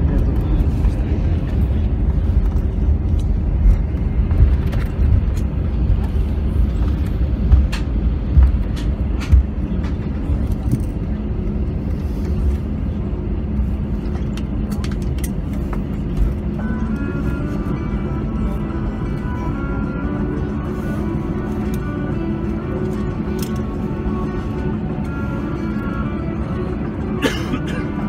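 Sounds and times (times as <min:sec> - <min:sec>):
low rumble of engines and wheels: 0:00.0 - 0:28.0.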